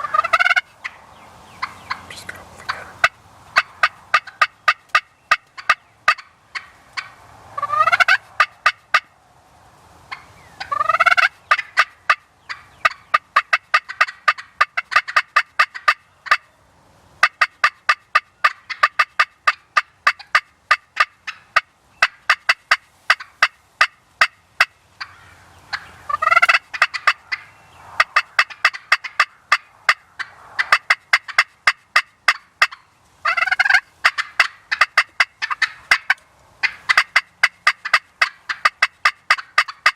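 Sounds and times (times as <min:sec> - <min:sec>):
hen turkey calls: 0:00.0 - 0:09.2, 0:10.1 - 0:16.6, 0:17.2 - 0:39.9
turkey gobbling: 0:00.0 - 0:09.2, 0:10.1 - 0:16.5, 0:17.2 - 0:39.9.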